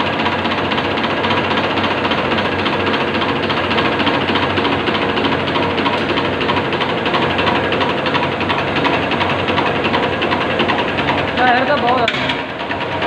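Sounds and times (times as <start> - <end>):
fuel pump ticking and humming: 0.0 - 13.0.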